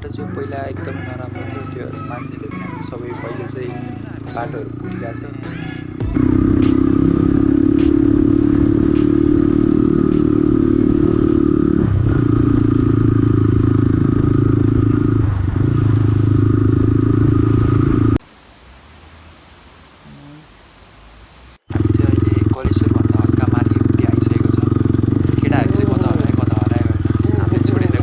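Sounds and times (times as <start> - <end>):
motorcycle engine running: 0.0 - 18.2, 21.7 - 28.0.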